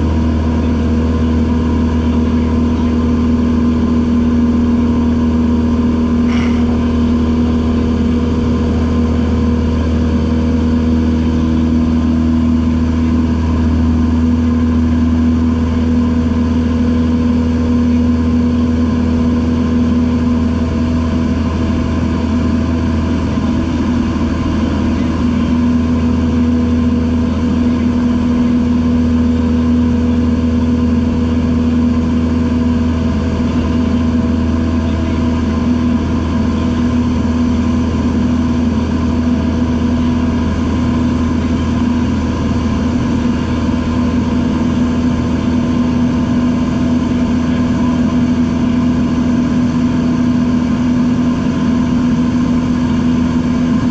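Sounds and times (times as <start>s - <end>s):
light aircraft engine droning: 0.0s - 53.9s.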